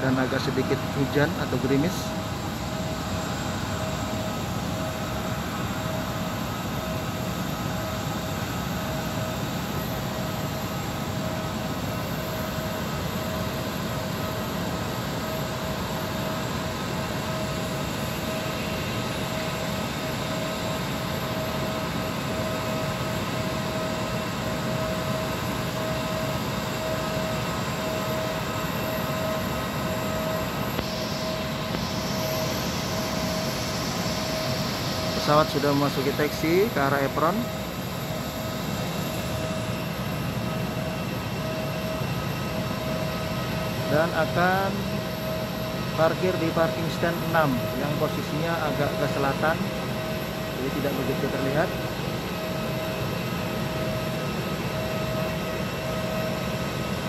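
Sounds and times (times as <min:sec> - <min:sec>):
jet airliner rumble: 0:00.0 - 0:57.0
jet airliner whine: 0:00.0 - 0:57.0.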